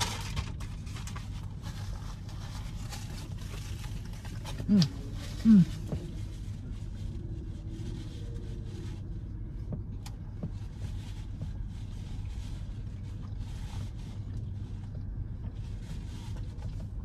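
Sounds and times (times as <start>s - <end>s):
car idling from inside cabin: 0.0s - 17.0s.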